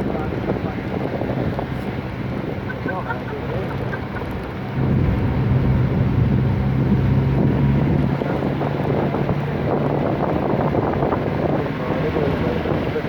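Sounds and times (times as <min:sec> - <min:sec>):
vehicle engine hum: 0:00.0 - 0:13.0
wind buffeting microphone: 0:00.0 - 0:13.0.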